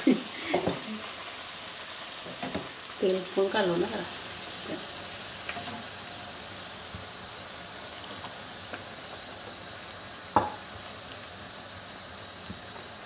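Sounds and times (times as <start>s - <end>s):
dough sizzling in hot oil: 0.0s - 13.0s.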